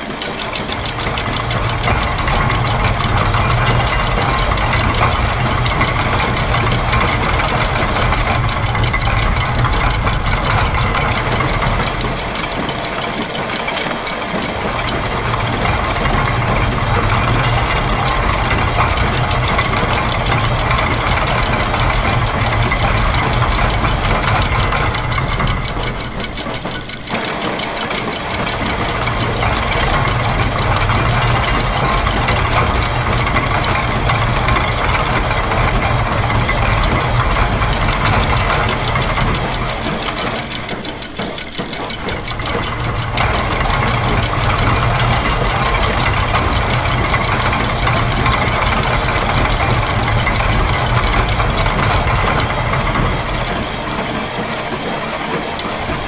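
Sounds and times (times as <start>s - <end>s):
low machine hum: 0.0s - 56.0s
mechanical clatter with rapid ticking: 0.0s - 56.0s.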